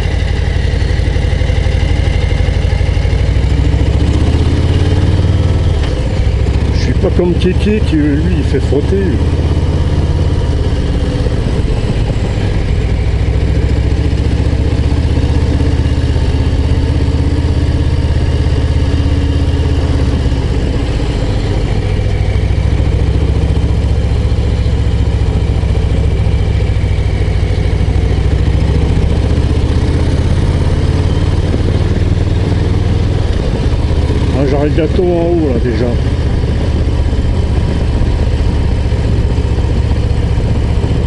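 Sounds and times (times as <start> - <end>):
motorcycle engine deep exhaust: 0.0 - 41.0.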